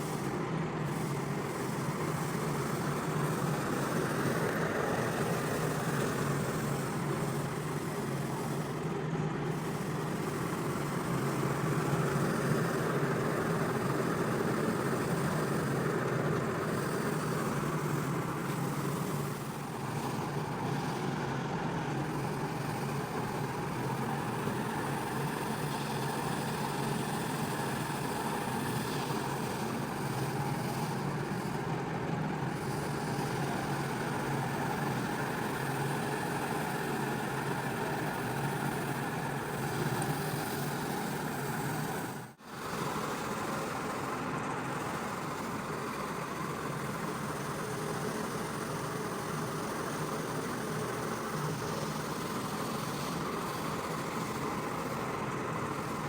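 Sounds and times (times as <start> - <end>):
water jet hissing on rug: 9.5 - 56.0.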